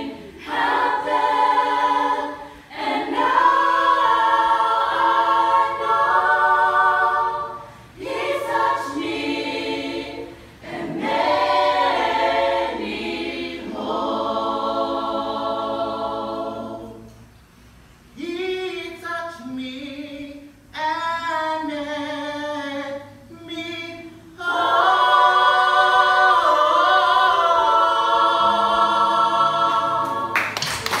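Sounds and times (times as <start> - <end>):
mixed choir singing a cappella: 0.0 - 17.3, 21.3 - 31.0.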